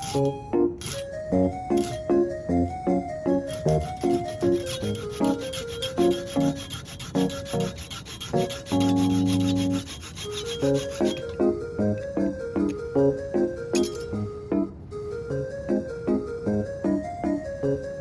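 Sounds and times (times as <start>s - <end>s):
held chord: 0.0s - 7.8s, 8.4s - 18.0s
bouncy background music: 0.0s - 18.0s.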